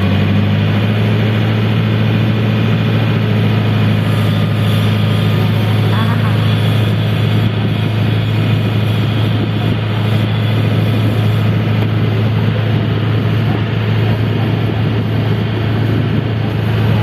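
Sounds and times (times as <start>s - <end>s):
boat engine humming: 0.0s - 17.0s
water rushing: 0.0s - 17.0s
wind: 0.0s - 17.0s.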